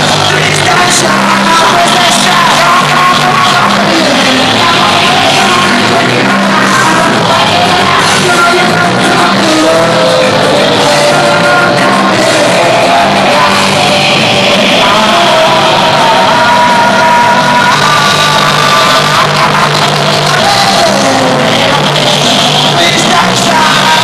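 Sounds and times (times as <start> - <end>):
drums: 0.0 - 24.0
electric guitar: 0.0 - 24.0
keyboard: 0.0 - 24.0
man singing into a microphone: 0.0 - 24.0.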